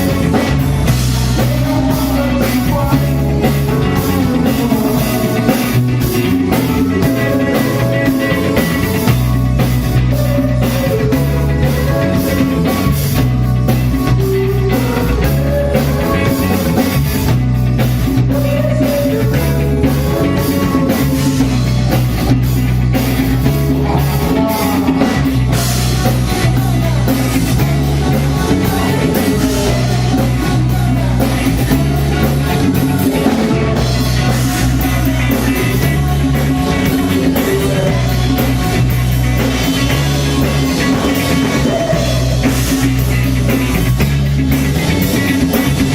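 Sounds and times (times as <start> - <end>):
drum kit steady beat: 0.0 - 45.9
guitar: 0.0 - 45.9
melodic line: 0.0 - 45.9
repeating bass line: 0.0 - 45.9.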